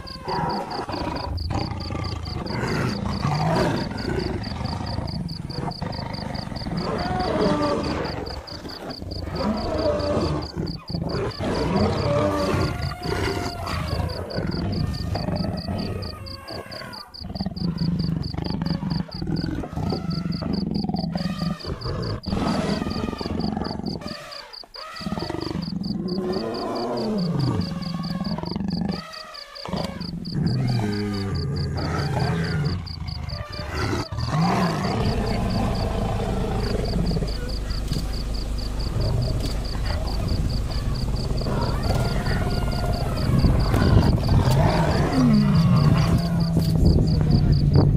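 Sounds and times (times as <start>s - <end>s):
animal calls: 0.0s - 47.8s
lions growling and roaring: 0.0s - 47.9s.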